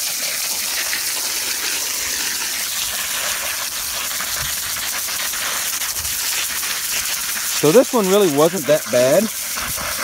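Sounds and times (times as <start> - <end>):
hose spraying water: 0.0 - 10.0.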